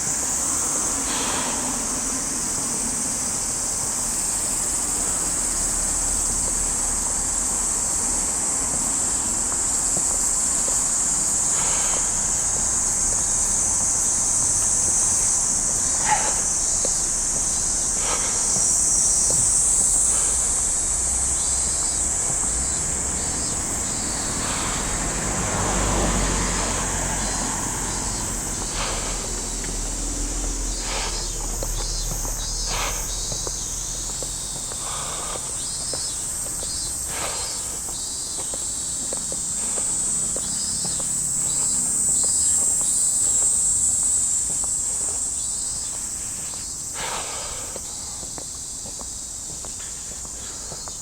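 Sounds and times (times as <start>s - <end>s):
cicadas chorus: 0.0s - 51.0s.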